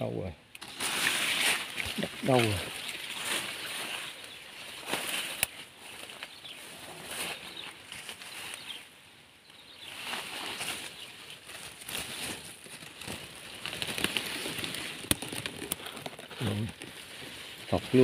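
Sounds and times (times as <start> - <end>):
plant stems rustling: 0.6 - 18.0.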